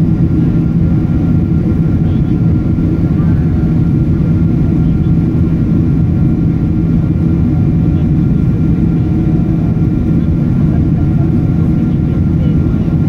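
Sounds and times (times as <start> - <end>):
jet engine and airflow drone: 0.0 - 13.0.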